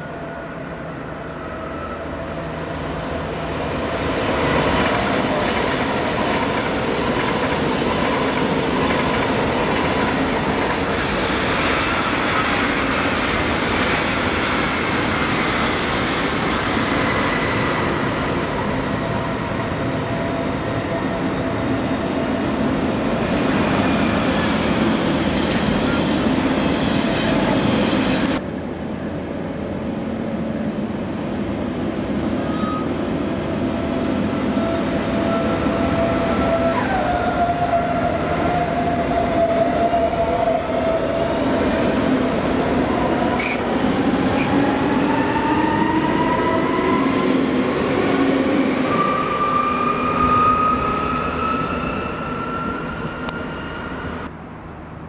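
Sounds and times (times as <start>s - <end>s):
train wheels rushing on rail: 0.7s - 55.0s
train rumble: 0.8s - 55.0s.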